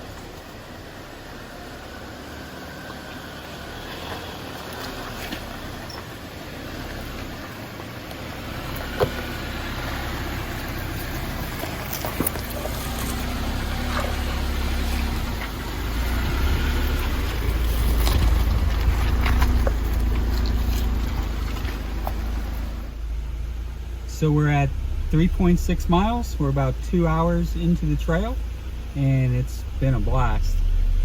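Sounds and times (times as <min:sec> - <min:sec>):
engine and drivetrain rumble: 0:00.0 - 0:31.0.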